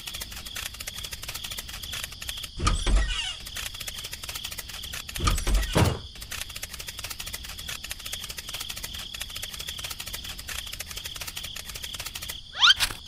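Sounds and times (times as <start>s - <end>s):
fast run of light clicks: 0.0s - 13.0s.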